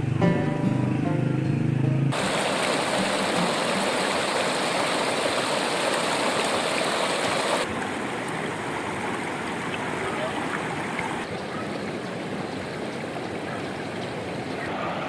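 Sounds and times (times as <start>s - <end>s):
running water rushing: 2.1s - 15.0s.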